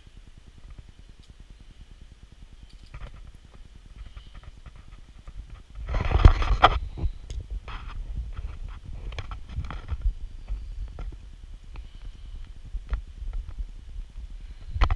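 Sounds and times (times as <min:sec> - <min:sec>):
low fluttering rumble: 0:00.0 - 0:14.9
scraping rustle on microphone: 0:02.6 - 0:14.9.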